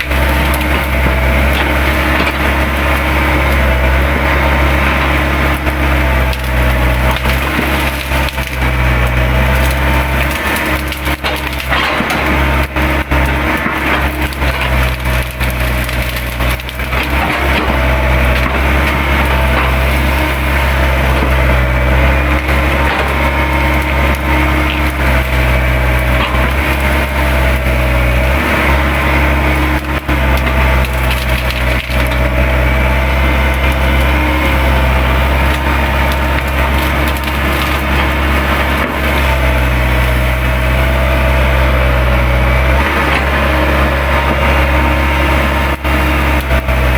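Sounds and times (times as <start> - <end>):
branches cracking and splintering: 0.0 - 46.9
excavator engine running: 0.0 - 46.9
hydraulic whine: 0.0 - 46.9.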